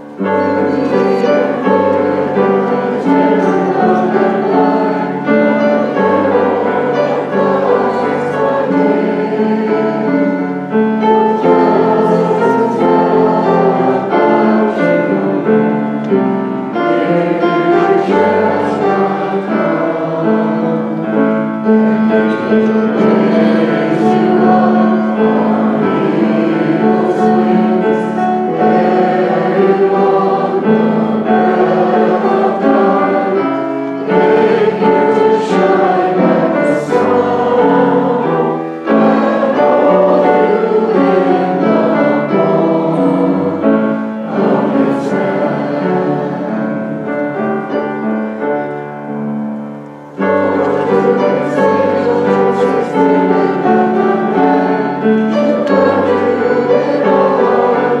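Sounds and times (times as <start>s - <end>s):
choir singing a hymn: 0.0s - 58.0s
instrumental accompaniment: 0.0s - 58.0s.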